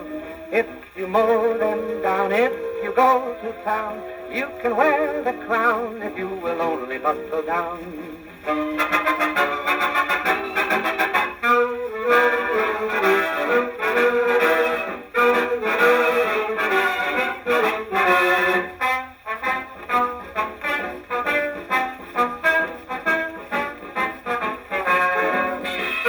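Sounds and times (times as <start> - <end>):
brass band on old record: 0.0 - 26.0.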